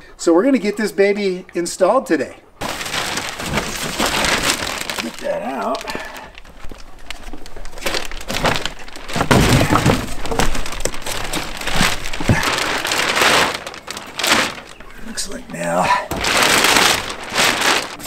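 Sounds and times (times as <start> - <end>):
plastic wrapping crinkling: 2.6 - 18.0.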